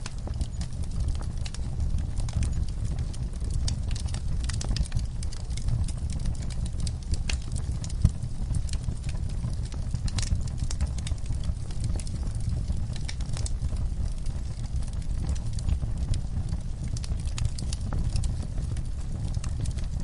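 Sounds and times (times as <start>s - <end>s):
low fire rumble: 0.0s - 20.0s
wood fire popping and snapping: 0.0s - 20.0s.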